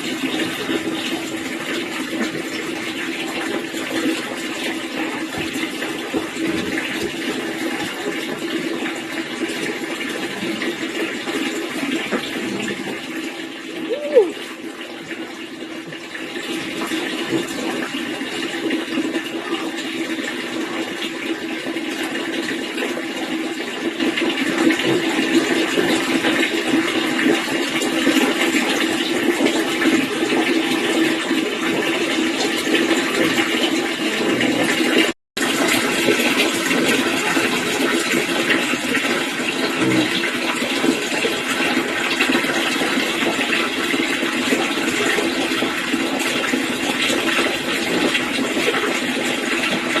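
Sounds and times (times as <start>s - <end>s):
running water rushing: 0.0s - 50.0s.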